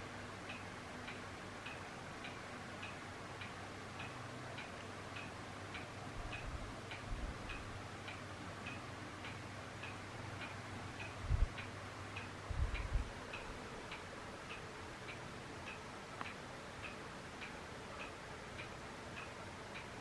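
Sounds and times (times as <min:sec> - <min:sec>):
electric fan humming: 0:00.0 - 0:20.0
light ticking: 0:00.4 - 0:20.0.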